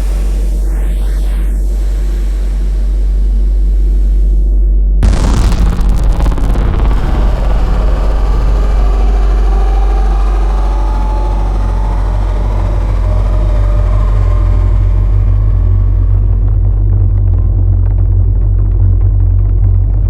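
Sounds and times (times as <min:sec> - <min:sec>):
deep low rumble: 0:00.0 - 0:20.0
hazy shifting drone: 0:00.0 - 0:20.0.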